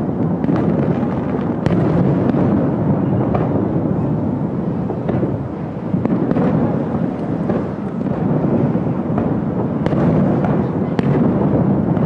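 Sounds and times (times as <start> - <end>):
fireworks booming: 0.0 - 12.0
fireworks sharp cracks: 0.0 - 12.0.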